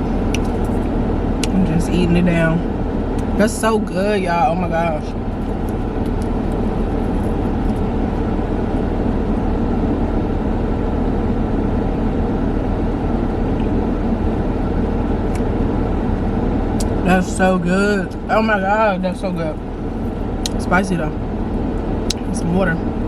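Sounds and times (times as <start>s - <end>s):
car cabin hum: 0.0s - 23.0s.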